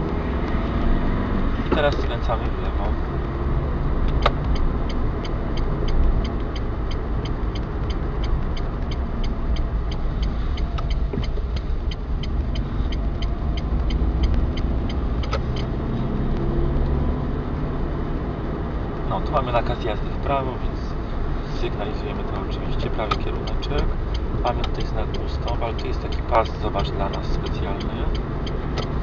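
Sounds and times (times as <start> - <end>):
engine and tyre rumble: 0.0 - 29.0
turn signal ticking: 0.0 - 29.0.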